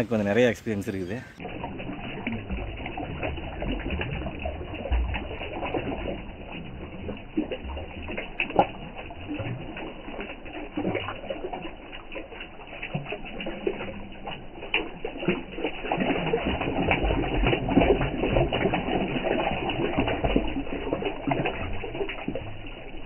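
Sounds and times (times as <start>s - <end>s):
canal water flowing: 0.0s - 23.0s
water splashing and trickling: 0.0s - 23.0s.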